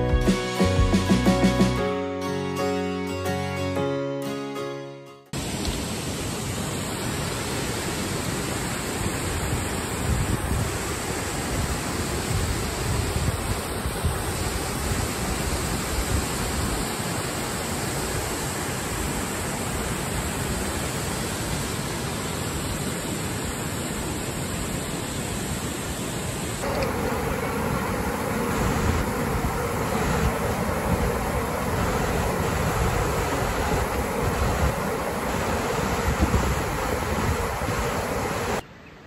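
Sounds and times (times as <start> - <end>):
waterfall rushing: 5.4 - 38.6.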